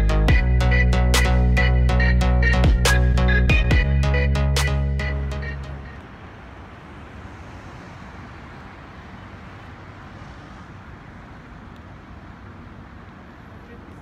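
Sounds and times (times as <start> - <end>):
city traffic noise: 0.0 - 14.0.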